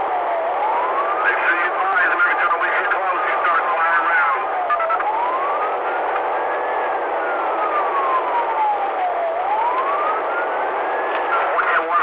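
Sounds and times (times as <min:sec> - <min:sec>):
car driving at speed: 0:00.0 - 0:12.0
police siren wailing: 0:00.0 - 0:12.0.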